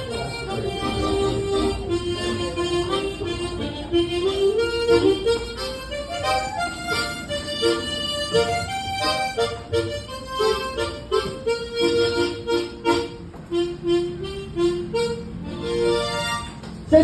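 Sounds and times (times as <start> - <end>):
solo harmonica: 0.0 - 16.6.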